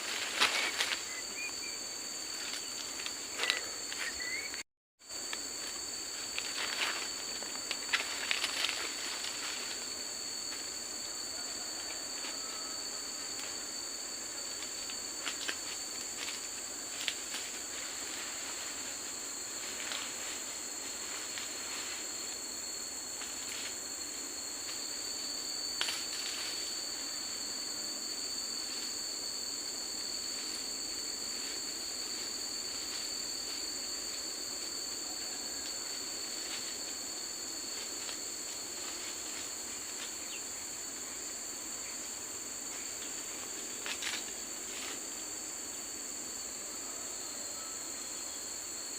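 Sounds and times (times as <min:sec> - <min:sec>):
insects shrill chorus: 0:00.0 - 0:48.9.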